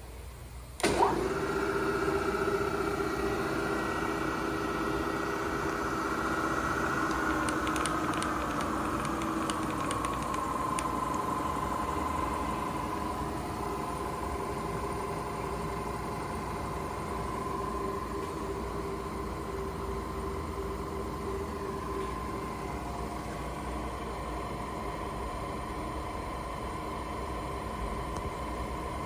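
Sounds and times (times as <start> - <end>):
milling machine motor whine: 0.8 - 29.0.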